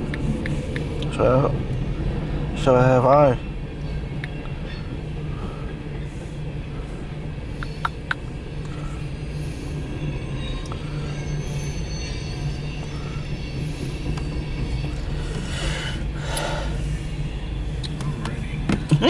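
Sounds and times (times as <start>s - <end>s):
train cars rumbling on rails: 0.0s - 19.0s.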